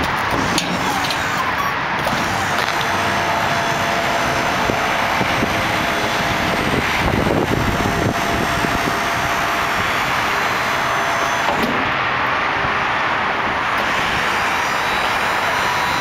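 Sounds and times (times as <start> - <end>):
hydraulic pump motor running: 0.0 - 12.0, 13.7 - 16.0.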